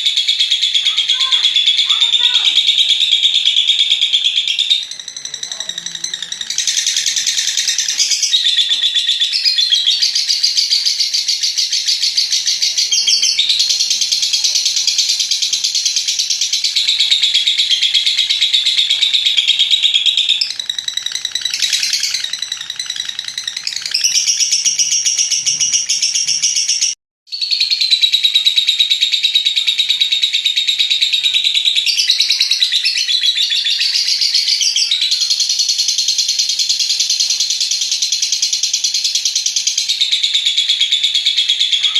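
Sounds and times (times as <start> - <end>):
lovebird shrill trilling chatter: 0.0 - 41.9.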